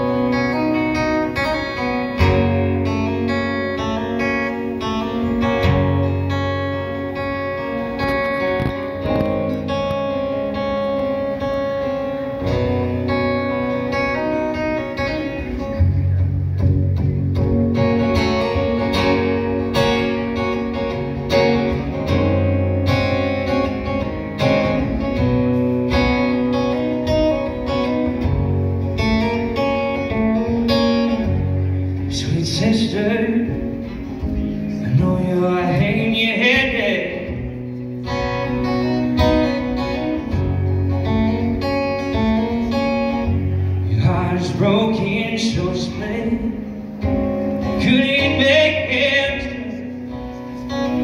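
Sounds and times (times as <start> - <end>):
acoustic guitar strumming chords: 0.0 - 51.0.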